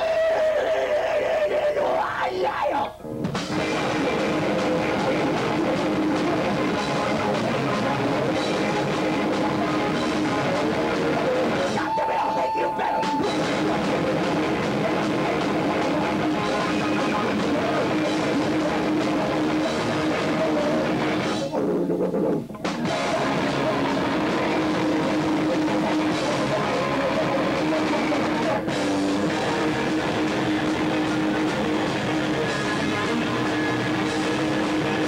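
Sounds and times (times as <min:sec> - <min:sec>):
distorted electric guitar: 0:00.0 - 0:35.0
rock band playing: 0:02.6 - 0:35.0
drum kit: 0:03.1 - 0:35.0.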